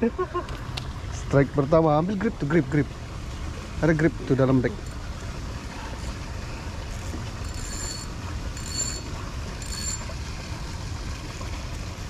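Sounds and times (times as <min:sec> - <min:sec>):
outdoor rumble and hiss: 0:00.0 - 0:12.0.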